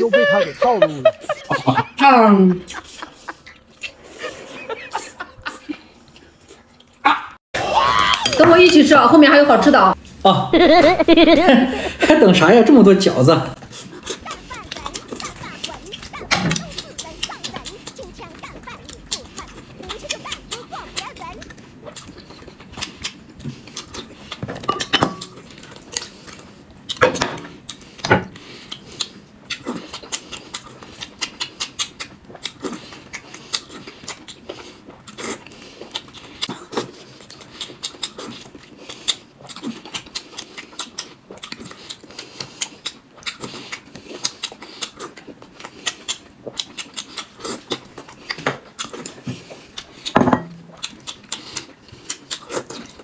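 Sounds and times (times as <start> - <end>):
man chewing wet mouth sounds: 2.6 - 7.4, 13.6 - 53.0.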